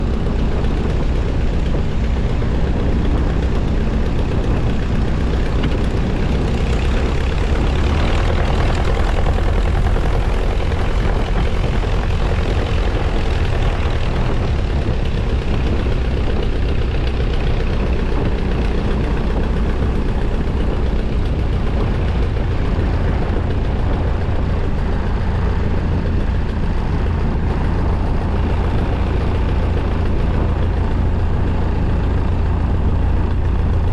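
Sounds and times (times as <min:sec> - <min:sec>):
aircraft engine and propeller droning: 0:00.0 - 0:33.9.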